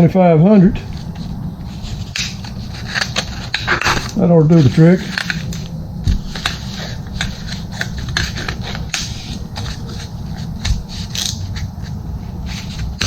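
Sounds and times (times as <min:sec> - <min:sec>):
steady low hum: 0:00.0 - 0:13.0
sandpaper crackling: 0:00.9 - 0:13.0.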